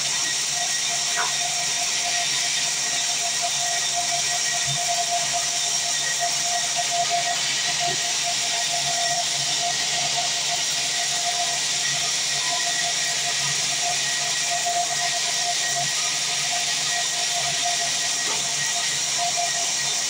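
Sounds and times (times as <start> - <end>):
bandsaw mill running: 0.0 - 20.0.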